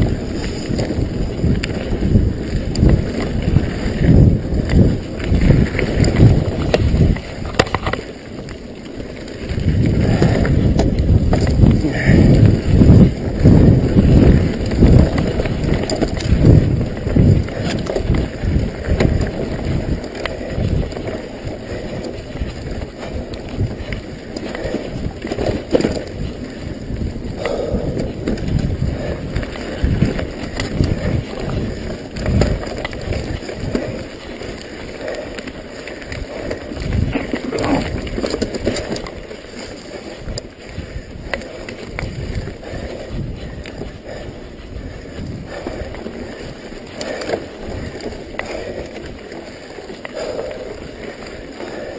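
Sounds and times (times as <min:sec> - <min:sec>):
bike thumps and rattles over bumps: 0:00.0 - 0:51.9
wind buffeting microphone: 0:00.0 - 0:51.9.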